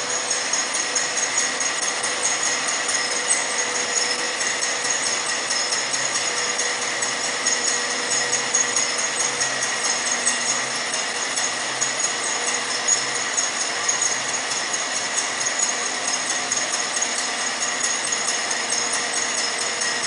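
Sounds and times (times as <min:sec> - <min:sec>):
high rapid rattle: 0:00.0 - 0:20.0
metal slitting machine running: 0:00.0 - 0:20.0
steady machine hum: 0:00.0 - 0:20.0.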